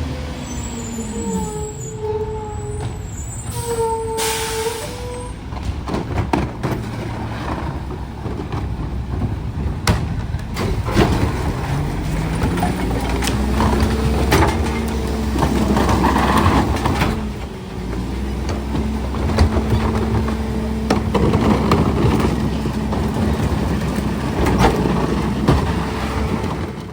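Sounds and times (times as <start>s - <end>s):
diesel engine revving: 0.0s - 26.9s.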